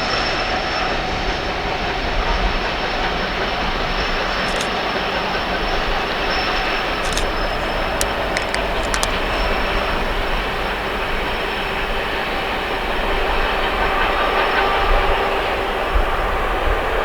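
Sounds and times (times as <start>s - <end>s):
train wheels rumbling: 0.8s - 17.0s
wheels clickety-clack: 1.3s - 17.0s.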